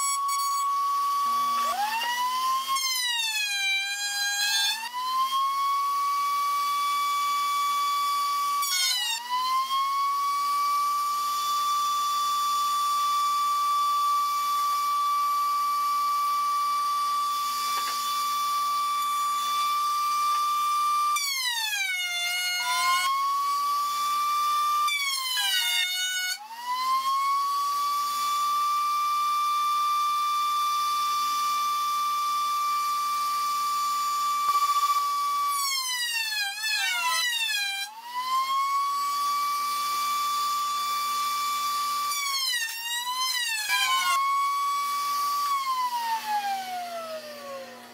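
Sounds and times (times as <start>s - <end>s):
router whining: 0.0s - 47.9s.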